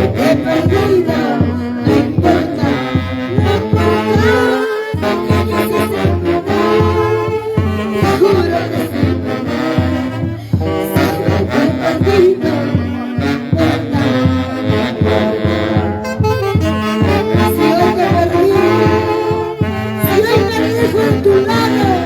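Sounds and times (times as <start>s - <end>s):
saxophones playing a melody: 0.0s - 22.0s.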